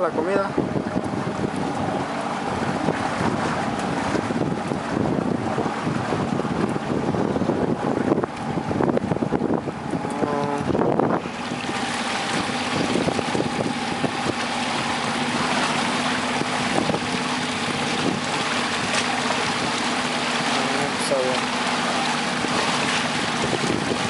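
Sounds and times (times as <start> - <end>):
outboard motor running: 0.0 - 24.0
water rushing: 0.0 - 24.0
wind buffeting microphone: 0.0 - 24.0.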